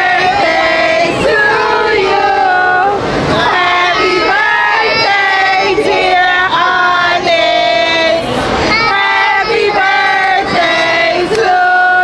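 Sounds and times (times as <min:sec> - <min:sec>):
group singing held notes: 0:00.0 - 0:12.0.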